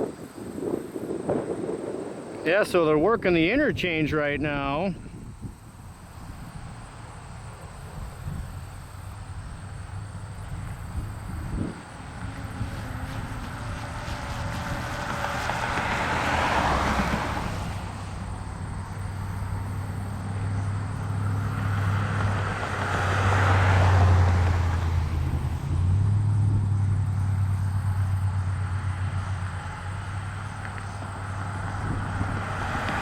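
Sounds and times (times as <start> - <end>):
road vehicles passing: 0.0 - 33.0
diesel locomotive rumble: 4.0 - 33.0.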